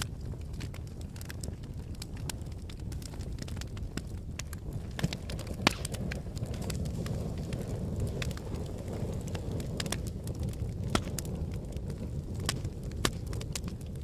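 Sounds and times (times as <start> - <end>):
fire crackling and popping: 0.0 - 14.0
low rush of flame: 0.0 - 14.0.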